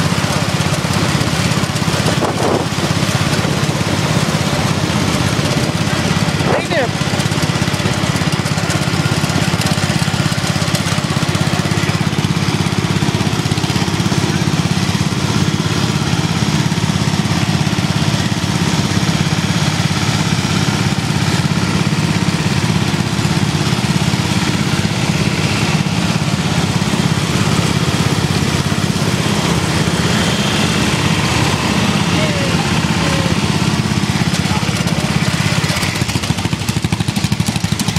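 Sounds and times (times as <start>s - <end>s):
small tractor engines droning: 0.0s - 37.9s.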